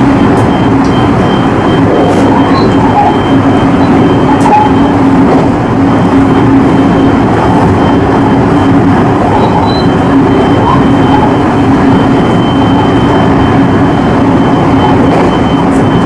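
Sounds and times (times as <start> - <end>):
steady train hum: 0.0 - 16.0
train wheels rumbling: 0.0 - 16.0.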